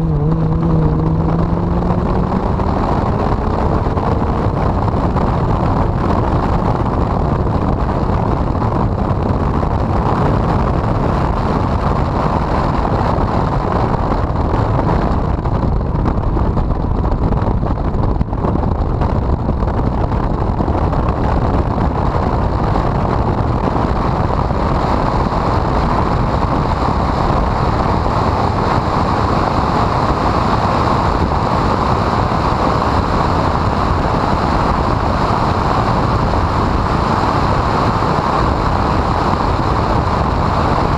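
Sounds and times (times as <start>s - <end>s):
car engine and wind rush: 0.0s - 40.9s.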